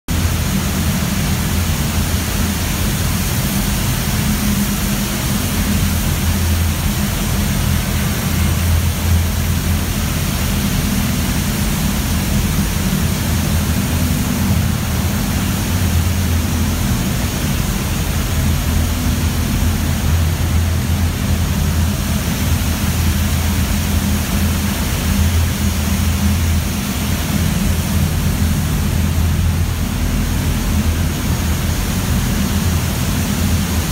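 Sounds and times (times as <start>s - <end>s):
furnace machinery roar: 0.1s - 33.9s.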